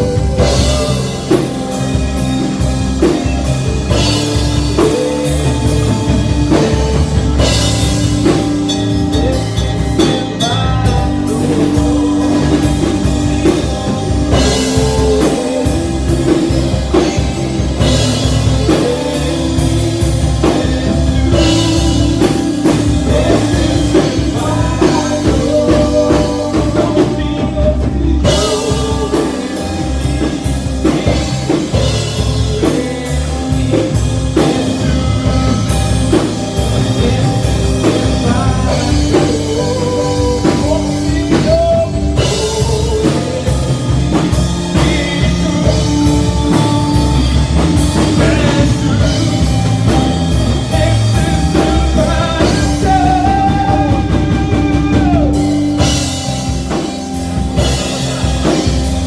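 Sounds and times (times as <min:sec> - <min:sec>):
drum kit beat: 0:00.0 - 0:59.0
person singing: 0:00.0 - 0:59.0
synthesizer keyboard chords: 0:00.0 - 0:59.0.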